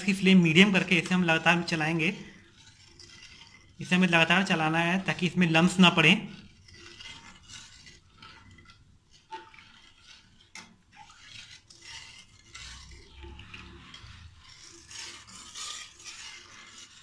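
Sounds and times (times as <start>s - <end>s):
metal ladle scraping a pan: 0.0s - 17.0s.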